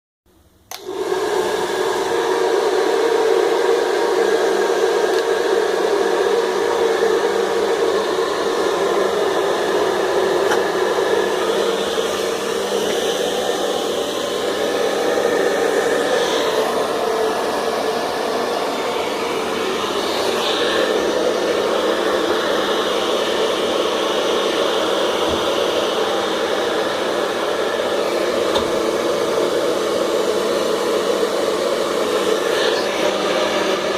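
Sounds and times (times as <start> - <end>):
hair dryer running: 0.7 - 33.9.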